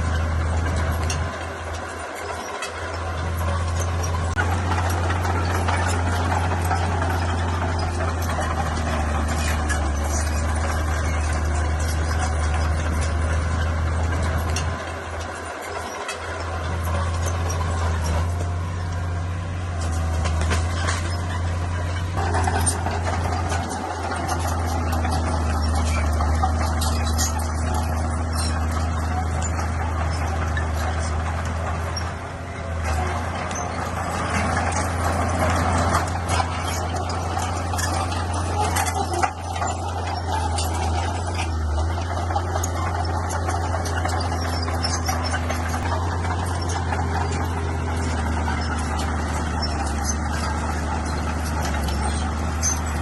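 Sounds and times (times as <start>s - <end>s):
bulldozer diesel engine droning: 0.0s - 53.0s
high squeaks: 0.0s - 53.0s
metal clanks: 0.0s - 53.0s.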